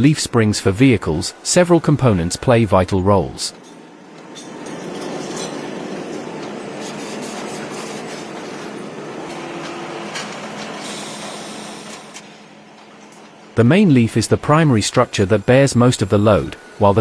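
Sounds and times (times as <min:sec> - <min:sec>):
factory machinery din: 0:00.0 - 0:12.9, 0:13.6 - 0:17.0.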